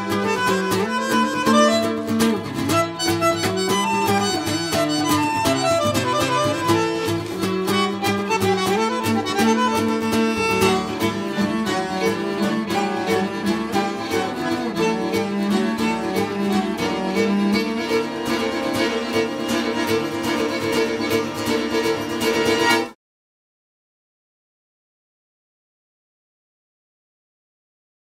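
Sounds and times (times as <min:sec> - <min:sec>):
band music with steady beat: 0:00.0 - 0:22.9.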